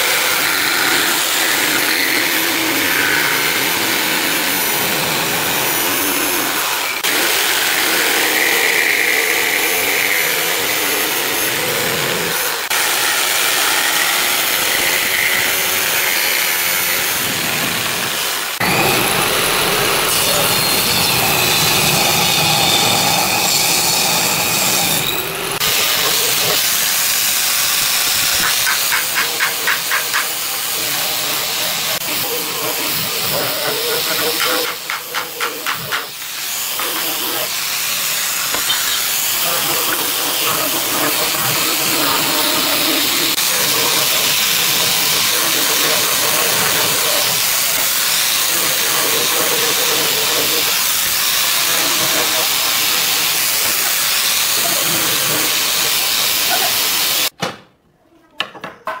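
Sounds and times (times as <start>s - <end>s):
angle grinder sanding wood: 0.0s - 57.3s
jigsaw cutting wood: 0.0s - 57.3s.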